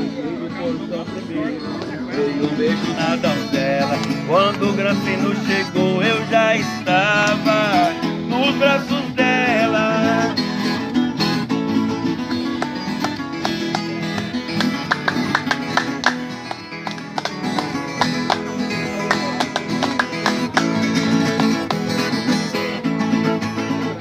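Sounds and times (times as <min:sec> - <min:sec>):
acoustic guitar picking melody: 0:00.0 - 0:24.0
strummed guitar accompaniment: 0:00.0 - 0:24.0.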